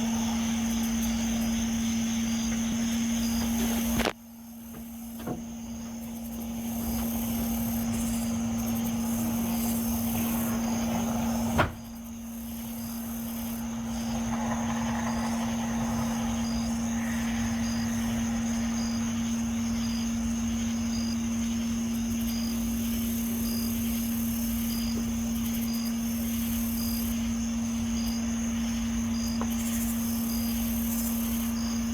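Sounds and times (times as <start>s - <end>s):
faint high whine: 0.0s - 31.9s
low droning hum: 0.0s - 31.9s.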